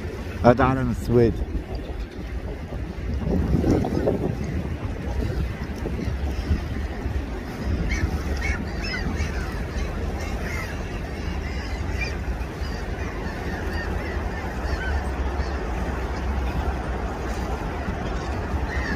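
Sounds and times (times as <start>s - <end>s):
gulls calling: 0.0s - 18.9s
wind rumble on microphone: 0.0s - 18.9s.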